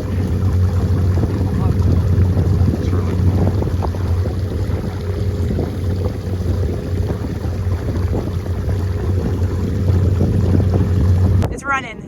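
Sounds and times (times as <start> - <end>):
boat engine humming: 0.0 - 12.0
wind on microphone: 0.0 - 12.0.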